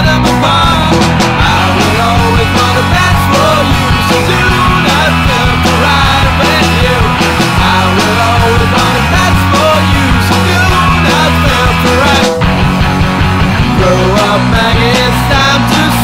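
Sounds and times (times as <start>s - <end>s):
punk rock band playing: 0.0s - 16.0s.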